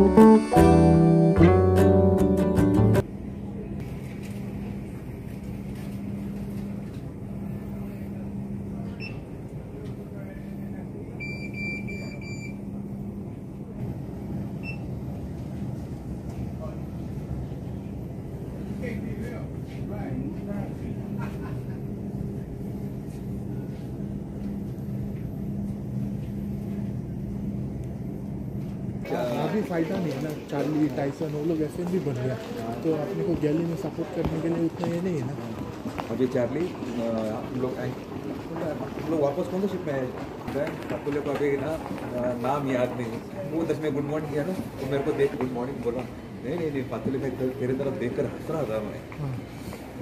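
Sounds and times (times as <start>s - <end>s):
low hum of building machinery: 3.0s - 50.0s.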